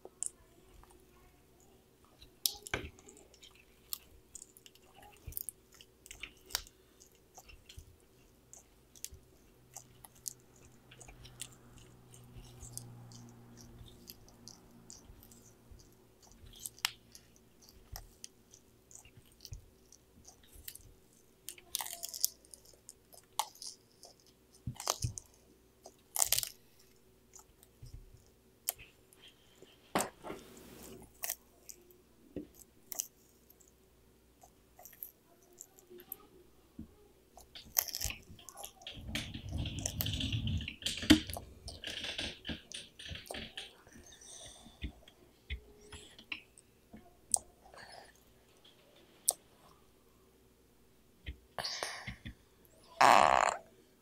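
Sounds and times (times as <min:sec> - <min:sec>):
tortoise chewing leafy greens: 0:00.0 - 0:29.8, 0:30.4 - 0:33.7, 0:37.3 - 0:49.8.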